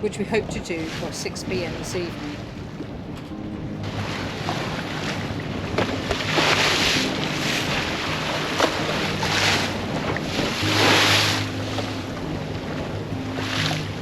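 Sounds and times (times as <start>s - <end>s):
faint low steady tones: 0.0s - 14.0s
water rushing along boat hull: 0.0s - 14.0s
wind on microphone: 0.0s - 14.0s.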